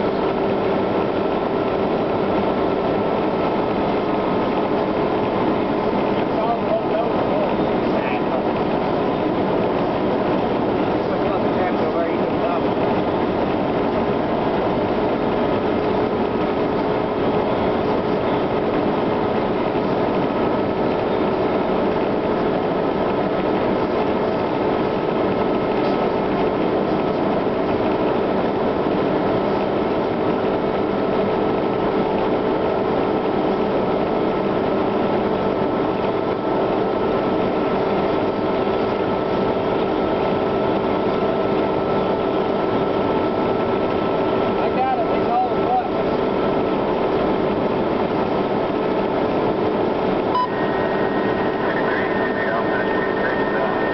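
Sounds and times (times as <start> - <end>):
constant whine: 0.0 - 53.9
diesel engine droning: 0.0 - 53.9.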